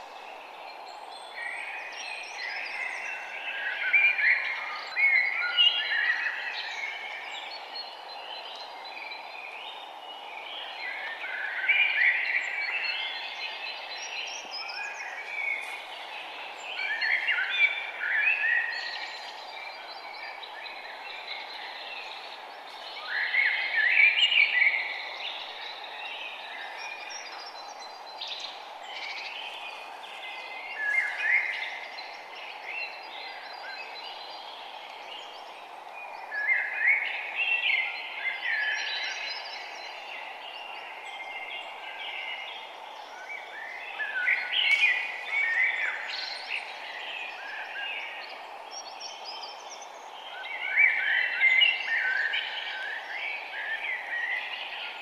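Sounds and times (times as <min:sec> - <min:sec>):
songbirds singing: 0:00.0 - 0:55.0
steady background hiss: 0:00.0 - 0:55.0.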